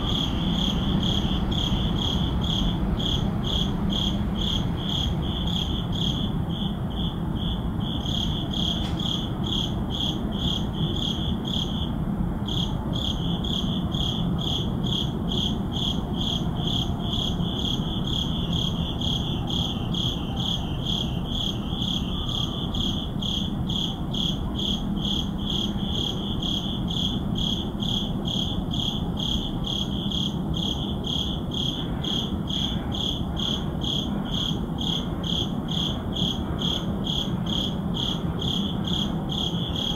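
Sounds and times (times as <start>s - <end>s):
crickets chirping: 0.0s - 39.9s
low city hum: 0.0s - 39.9s.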